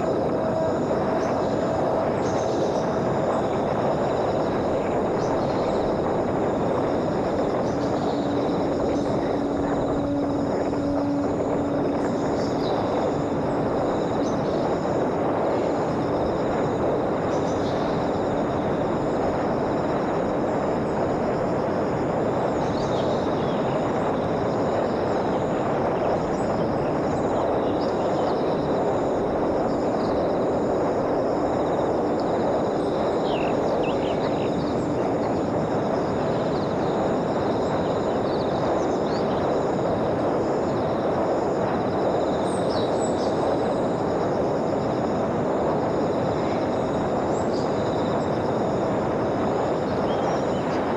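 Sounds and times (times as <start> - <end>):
rushing noise: 0.0 - 50.9.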